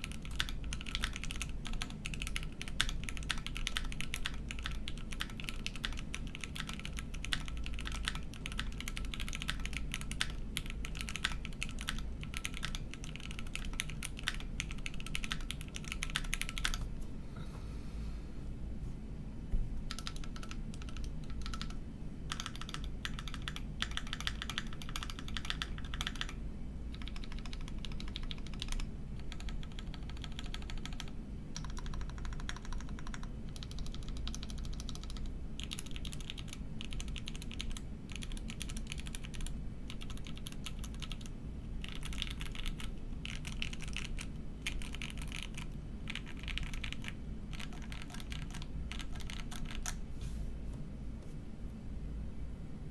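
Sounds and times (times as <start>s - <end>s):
mechanical keyboard typing: 0.0s - 16.8s, 19.9s - 50.0s.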